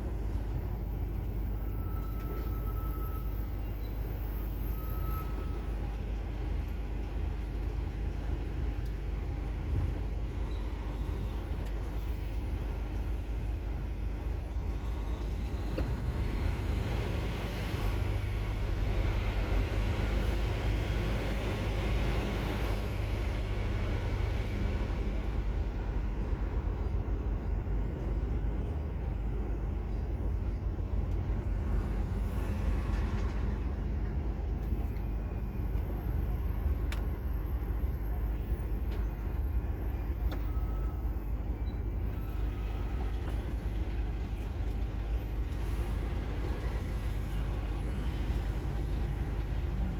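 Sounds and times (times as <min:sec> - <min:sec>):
road and tyre noise: 0:00.0 - 0:49.9.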